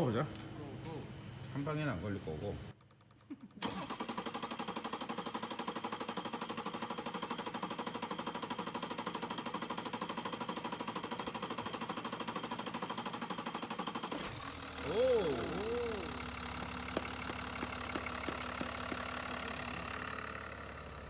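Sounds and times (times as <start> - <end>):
engine cranking without starting: 2.8 - 21.0.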